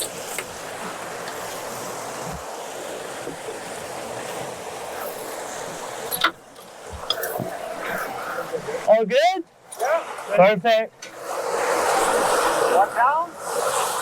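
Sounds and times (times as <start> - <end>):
water rushing: 0.0 - 14.0
wind: 0.0 - 14.0.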